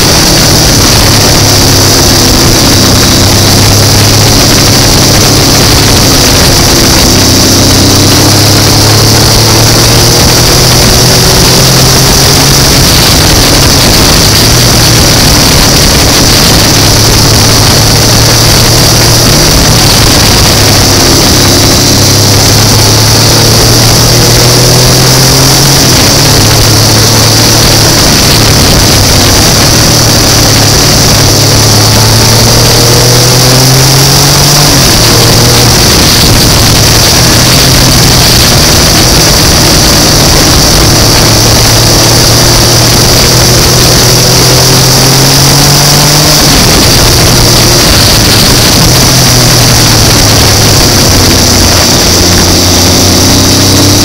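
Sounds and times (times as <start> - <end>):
motorcycle engine revving: 0.0 - 54.0
wind and wet road hiss: 0.0 - 54.0.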